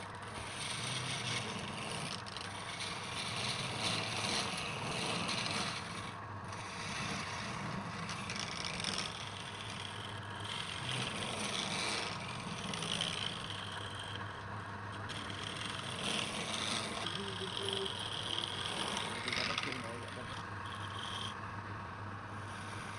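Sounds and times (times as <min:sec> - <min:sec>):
turning tool scraping wood: 0:00.0 - 0:21.4, 0:22.3 - 0:22.9
lathe motor hum: 0:00.0 - 0:22.9.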